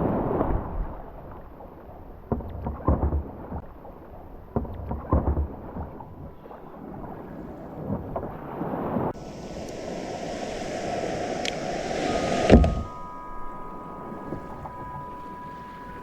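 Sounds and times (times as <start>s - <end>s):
wind rumble on microphone: 0.0s - 16.0s
water sloshing against hull: 1.3s - 16.0s.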